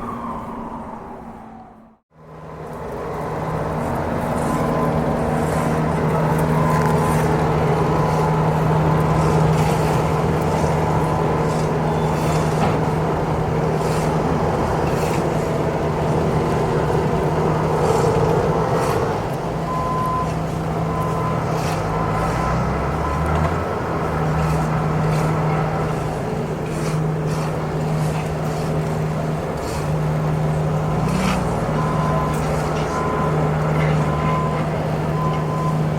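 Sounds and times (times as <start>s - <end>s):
vehicle engine running: 2.2s - 35.9s.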